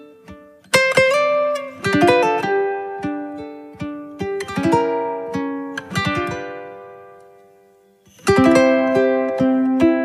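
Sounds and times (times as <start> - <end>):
plucked acoustic strings: 0.0 - 10.0.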